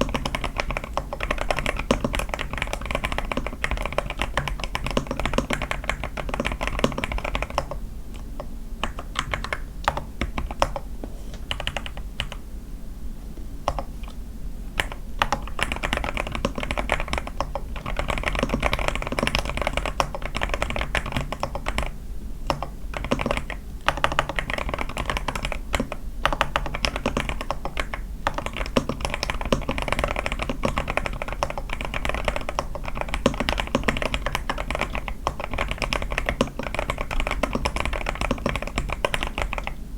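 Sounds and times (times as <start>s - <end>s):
mechanical keyboard typing: 0.0s - 7.8s, 8.8s - 10.9s, 11.5s - 12.4s, 14.8s - 21.9s, 22.5s - 39.8s.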